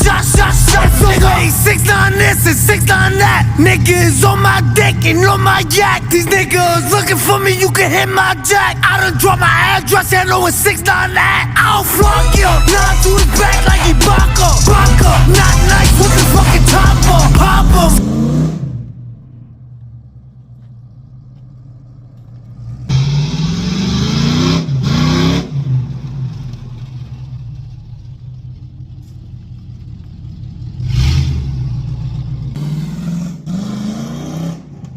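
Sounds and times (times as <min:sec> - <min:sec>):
truck engine idling and revving: 0:00.0 - 0:34.9.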